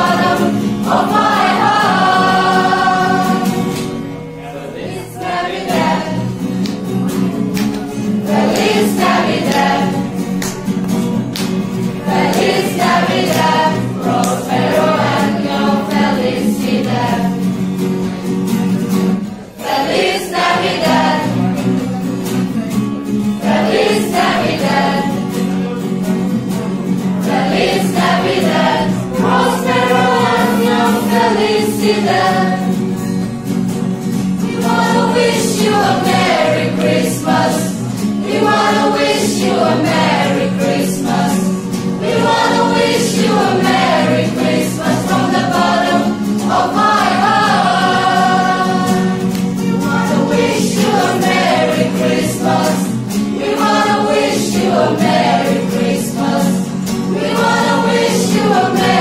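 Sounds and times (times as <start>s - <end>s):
young choir singing a carol: 0.0s - 7.2s, 8.0s - 10.4s, 11.9s - 17.9s, 19.3s - 22.6s, 23.3s - 25.4s, 27.0s - 33.3s, 34.1s - 59.0s
strummed acoustic guitar: 0.0s - 59.0s.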